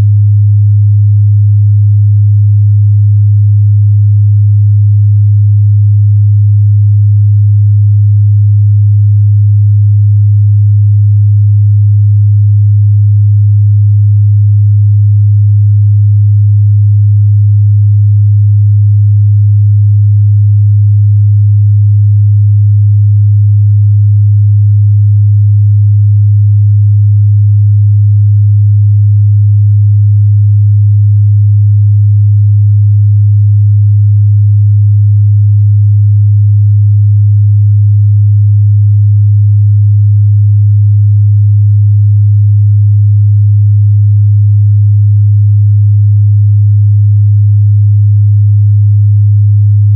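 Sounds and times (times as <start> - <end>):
low sine test tone: 0.0 - 49.9.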